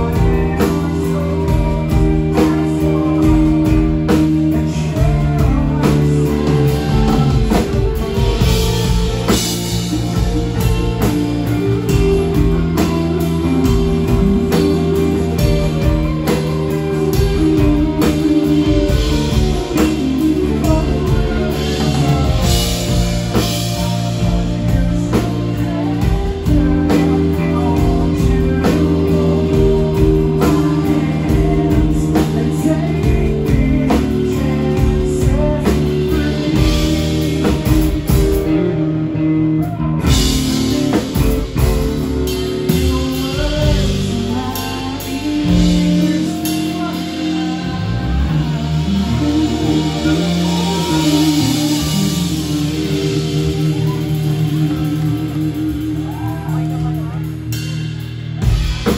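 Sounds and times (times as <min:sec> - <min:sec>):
live rock band playing: 0:00.0 - 0:58.9
man singing lead vocal: 0:00.0 - 0:58.9.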